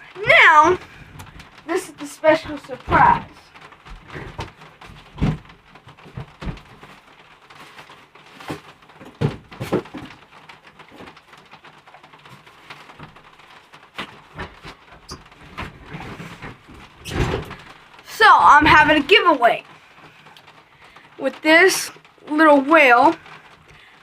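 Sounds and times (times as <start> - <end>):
packaging rustling: 0.0 - 21.2.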